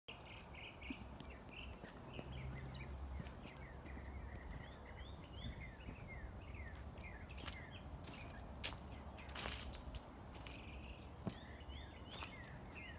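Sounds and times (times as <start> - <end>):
birds chirping: 0.1 - 12.9.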